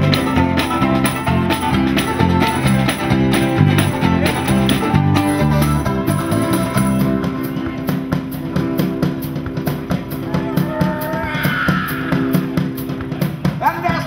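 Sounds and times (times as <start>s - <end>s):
rock music with drums and guitar: 0.0s - 14.0s.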